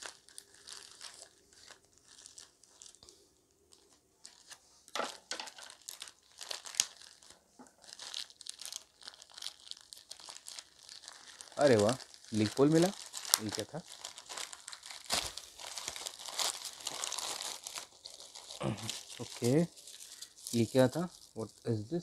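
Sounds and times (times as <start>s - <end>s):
plastic bag crinkling and tearing: 0.0s - 22.0s.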